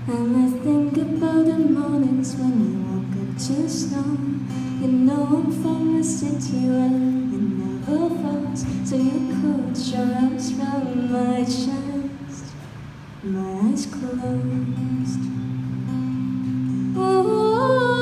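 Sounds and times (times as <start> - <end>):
strummed acoustic guitar: 0.0 - 18.0
woman singing into microphone: 0.0 - 18.0.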